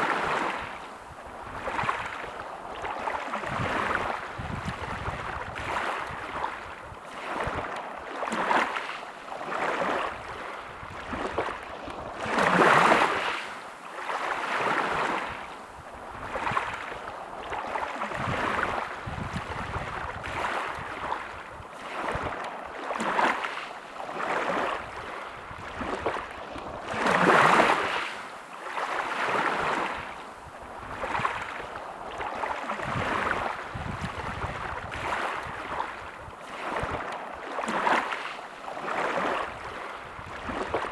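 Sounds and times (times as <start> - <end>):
sea waves breaking: 0.0 - 40.9.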